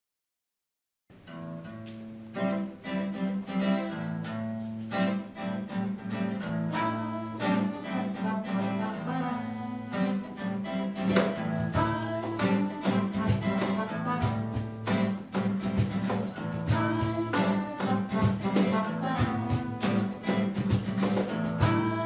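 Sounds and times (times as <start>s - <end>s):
instrumental background music: 1.2s - 22.0s.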